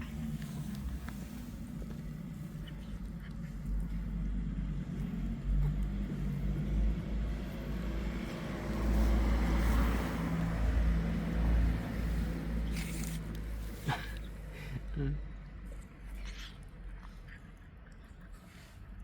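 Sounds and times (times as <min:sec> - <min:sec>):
vehicle engine rumbling: 0:00.0 - 0:16.1.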